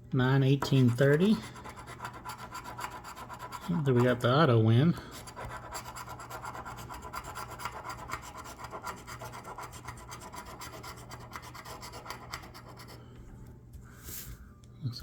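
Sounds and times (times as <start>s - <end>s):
lottery ticket being scratched: 0.6s - 13.0s.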